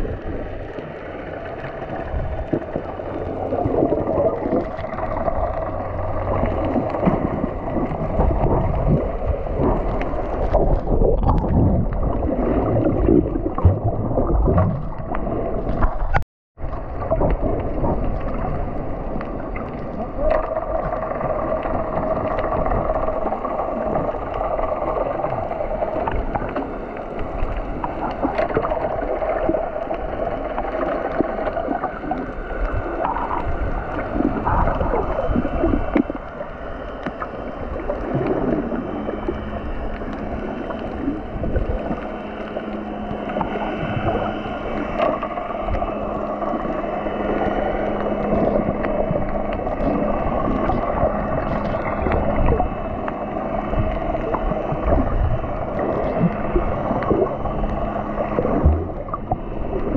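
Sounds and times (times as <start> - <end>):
boat engines droning underwater: 0.0 - 59.9
low steady hum: 0.0 - 59.9
water gurgling underwater: 0.0 - 59.9.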